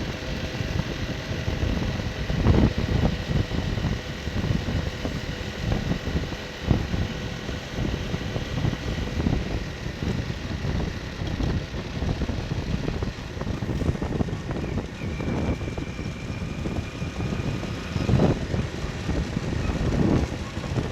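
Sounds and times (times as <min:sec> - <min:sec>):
motorcycle engine running: 0:00.0 - 0:20.9
wind on microphone: 0:00.0 - 0:20.9.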